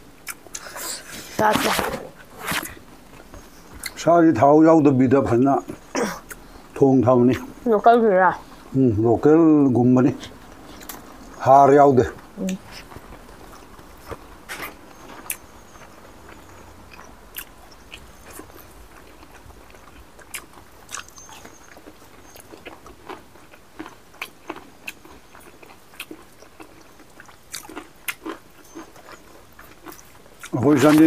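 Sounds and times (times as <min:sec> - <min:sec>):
people chewing food: 0:00.0 - 0:31.0.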